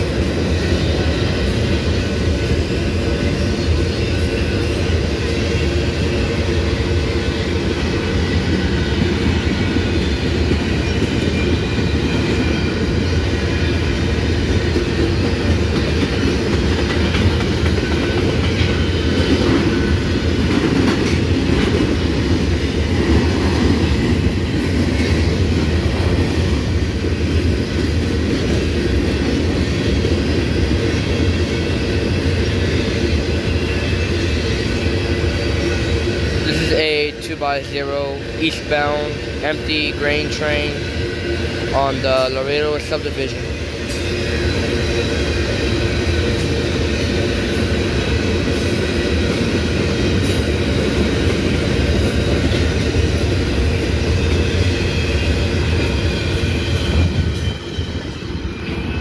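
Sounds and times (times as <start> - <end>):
freight cars rolling on rails: 0.0 - 59.0.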